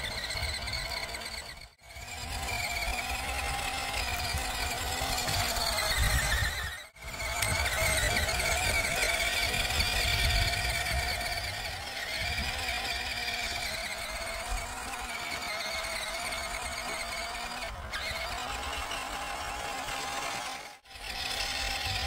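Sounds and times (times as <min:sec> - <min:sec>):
toy car electric motor whine: 0:00.0 - 0:22.0.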